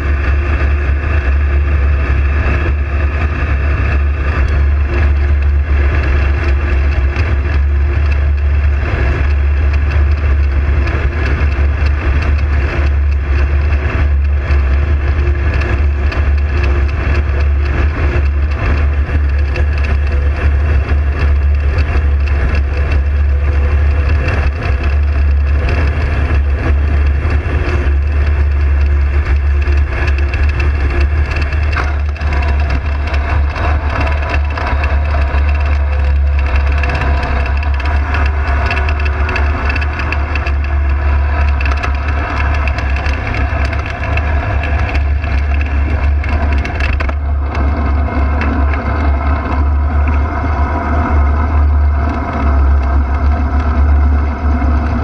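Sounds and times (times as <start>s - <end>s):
engine running: 0.0s - 55.0s
wind rumble on microphone: 0.0s - 55.0s.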